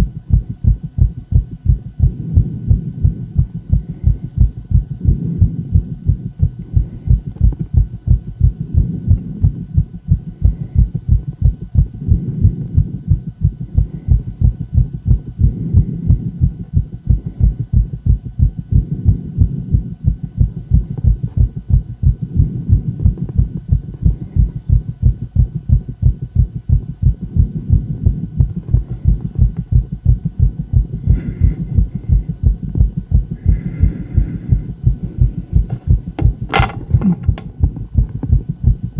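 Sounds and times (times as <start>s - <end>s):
fast heartbeat thumps: 0.0s - 38.9s.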